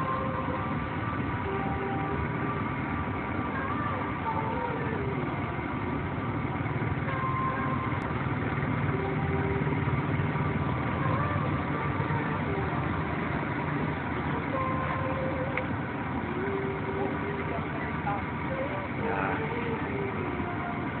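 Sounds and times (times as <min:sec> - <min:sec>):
quad bike engines droning: 0:00.0 - 0:21.0.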